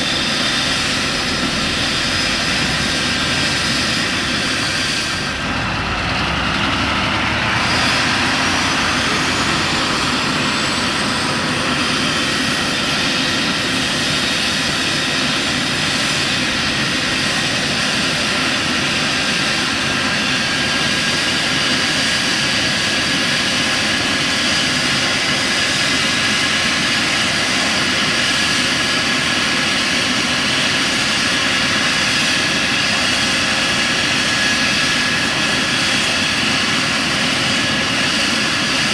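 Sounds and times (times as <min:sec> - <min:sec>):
helicopter turbine whine and rotors: 0:00.0 - 0:38.9.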